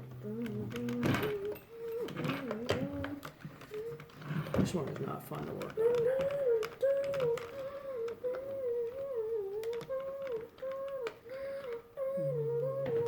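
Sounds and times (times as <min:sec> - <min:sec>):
person humming a tune: 0:00.0 - 0:04.3, 0:05.6 - 0:13.0.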